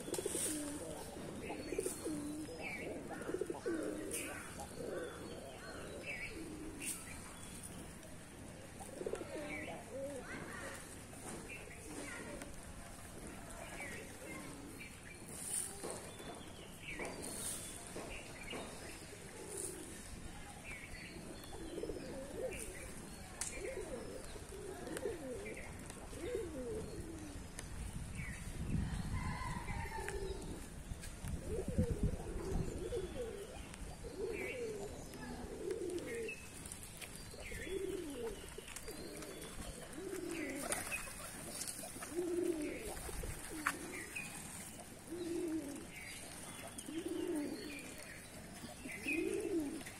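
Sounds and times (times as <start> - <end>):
pigeons cooing: 0.0 - 16.2, 17.0 - 27.6, 29.1 - 49.9.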